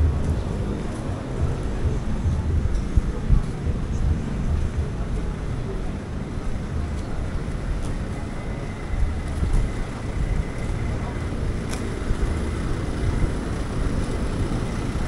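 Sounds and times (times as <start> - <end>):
road traffic rumble: 0.0 - 15.0
wind on microphone: 0.0 - 15.0.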